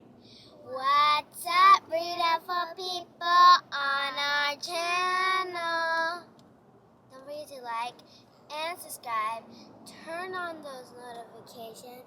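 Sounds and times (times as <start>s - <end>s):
child singing: 0.7s - 6.2s, 7.2s - 12.0s.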